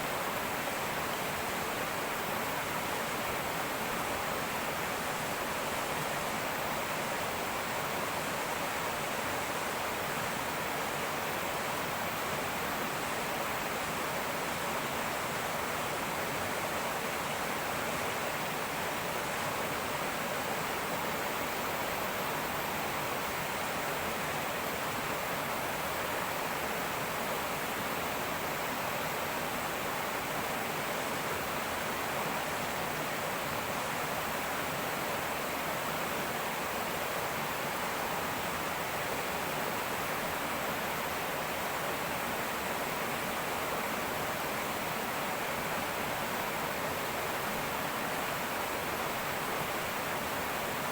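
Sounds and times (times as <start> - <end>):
river rushing and babbling: 0.0 - 50.9.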